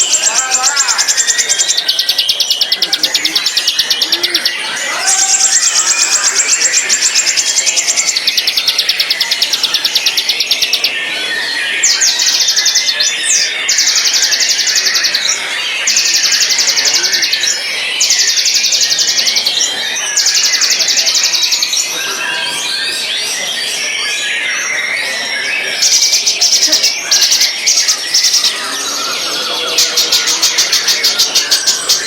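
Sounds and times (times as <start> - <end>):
bird singing rattling trills: 0.0 - 32.0.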